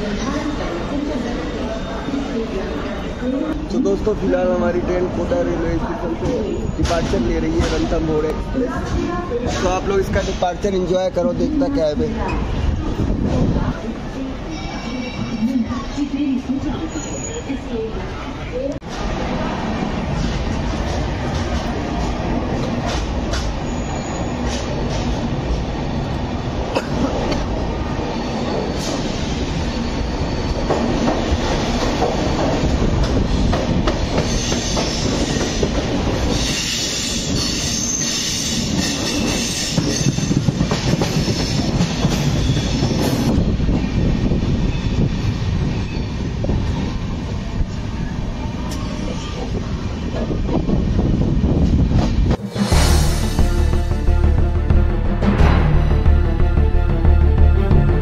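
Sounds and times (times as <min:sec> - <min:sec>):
train coaches rumbling: 0:00.0 - 0:58.0.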